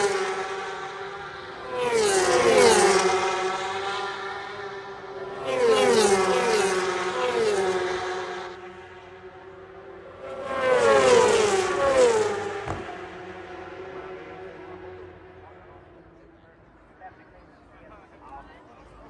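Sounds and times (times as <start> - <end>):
racing motorcycles passing by: 0.0 - 15.4.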